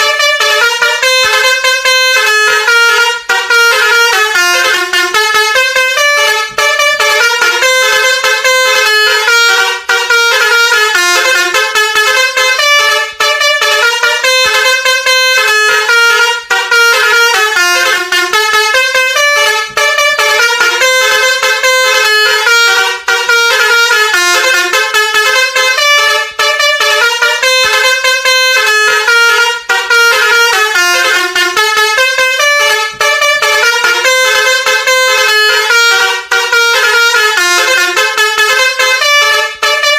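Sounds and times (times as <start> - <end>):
multi-tone bus horn melody: 0.0 - 39.9.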